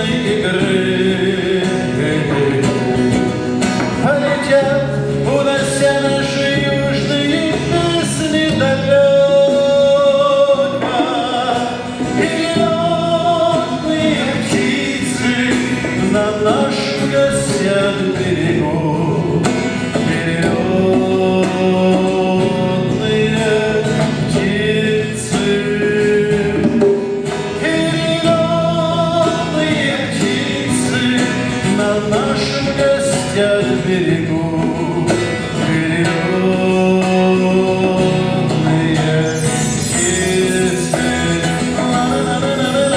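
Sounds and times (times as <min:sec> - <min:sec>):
guitar accompaniment: 0:00.0 - 0:42.9
man singing: 0:00.0 - 0:42.9.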